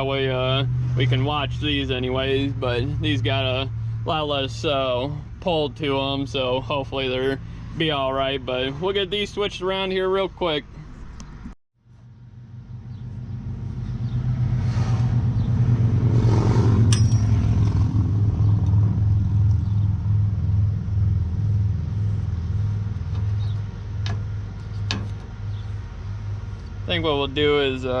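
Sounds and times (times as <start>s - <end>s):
engine humming steadily: 0.0s - 28.0s.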